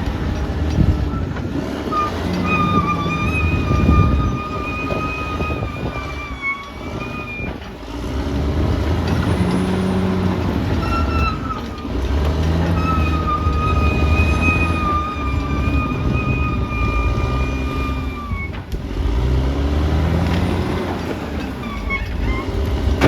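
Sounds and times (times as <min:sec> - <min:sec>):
bulldozer engine under load: 0:00.0 - 0:23.0.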